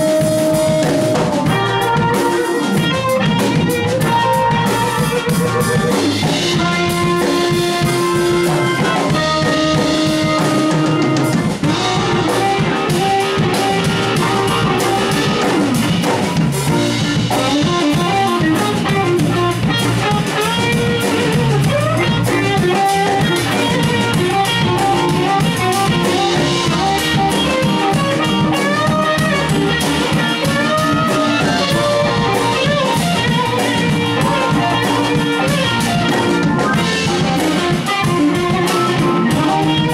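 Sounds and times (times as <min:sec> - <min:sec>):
blues guitar lead: 0:00.0 - 0:39.9
drum kit: 0:00.0 - 0:39.9.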